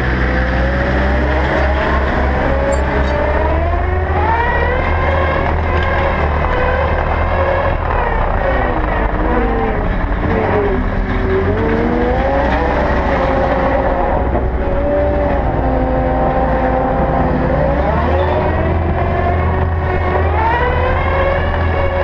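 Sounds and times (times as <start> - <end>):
diesel engine droning: 0.0 - 22.0
drive whine: 0.0 - 22.0.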